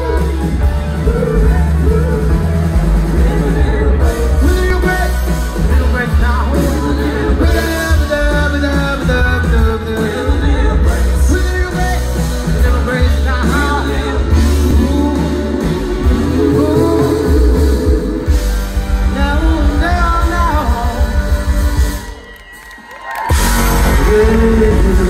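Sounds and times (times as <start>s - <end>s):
man singing lead vocal: 0.0s - 22.3s, 23.6s - 25.0s
live pop band playing: 0.0s - 25.0s.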